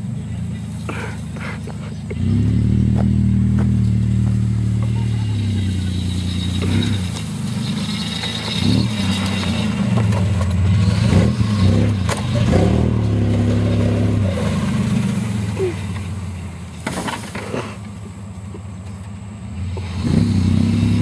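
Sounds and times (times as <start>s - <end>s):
truck engine revving: 0.0s - 21.0s
truck knocking over bumps: 0.9s - 15.0s, 15.7s - 21.0s.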